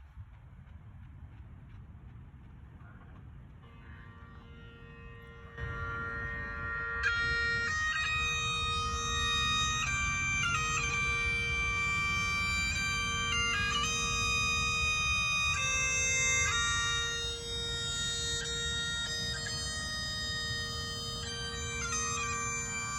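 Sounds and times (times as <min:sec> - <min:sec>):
bagpipes playing slow melody: 0:03.6 - 0:22.9.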